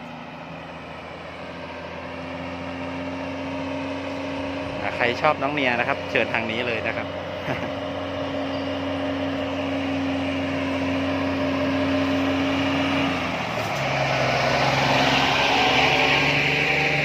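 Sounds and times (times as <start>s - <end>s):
road noise: 0.0s - 17.0s
truck diesel engine pulling uphill: 0.0s - 17.0s.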